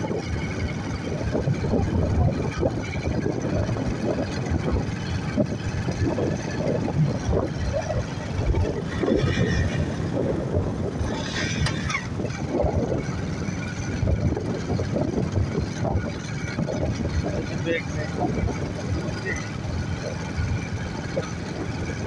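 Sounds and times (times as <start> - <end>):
motorbike running at speed: 0.0 - 22.0
wind buffeting microphone: 0.0 - 22.0.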